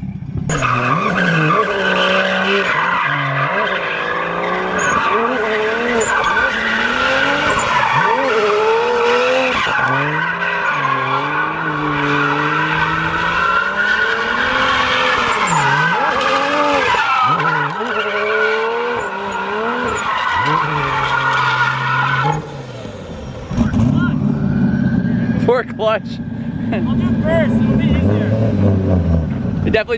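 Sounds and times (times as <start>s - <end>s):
car engine revving: 0.0s - 29.9s
tires squealing: 0.0s - 29.9s.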